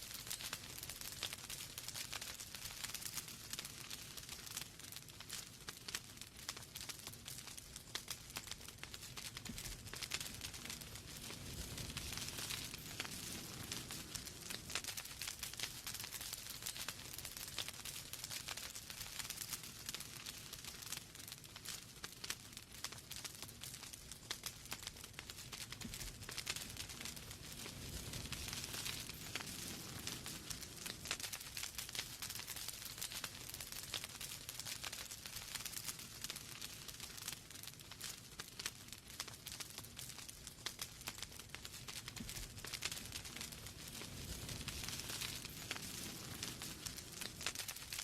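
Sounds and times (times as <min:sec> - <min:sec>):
flame rumbling: 0:00.0 - 0:48.0
wood fire crackling and popping: 0:00.0 - 0:48.0.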